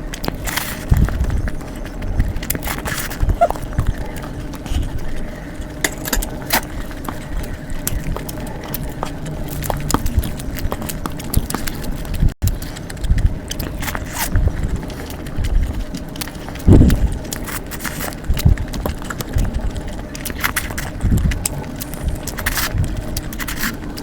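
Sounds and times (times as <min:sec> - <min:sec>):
person chewing close up: 0:00.0 - 0:24.0.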